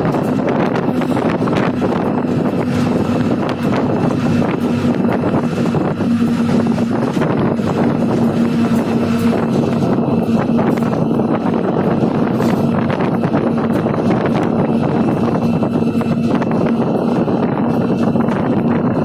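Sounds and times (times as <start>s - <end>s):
locomotive engine drone: 0.0s - 19.0s
sharp rattles and clicks: 0.0s - 19.0s
wind noise: 0.0s - 19.0s.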